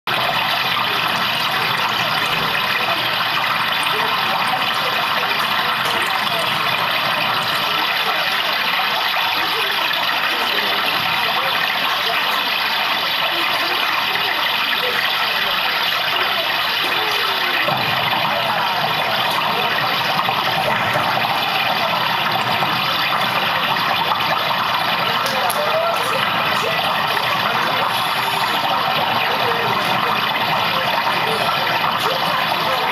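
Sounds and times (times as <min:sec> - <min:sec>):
person gurgling water: 0:00.1 - 0:32.9.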